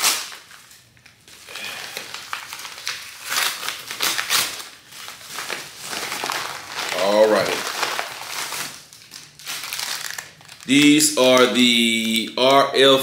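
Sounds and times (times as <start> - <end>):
plastic bags crinkling: 0.0 - 12.3.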